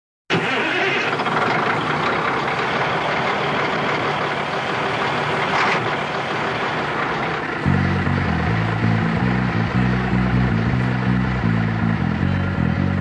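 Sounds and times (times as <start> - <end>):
truck engine running: 0.3 - 13.0.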